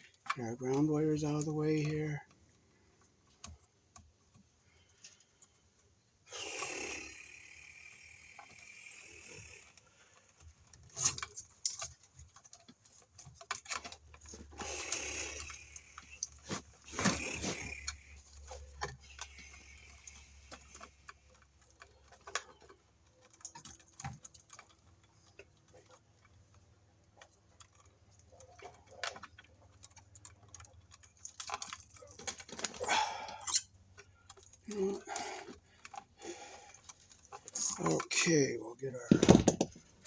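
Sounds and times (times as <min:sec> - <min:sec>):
wires rasping and scraping: 0:00.0 - 0:03.7, 0:06.3 - 0:40.0.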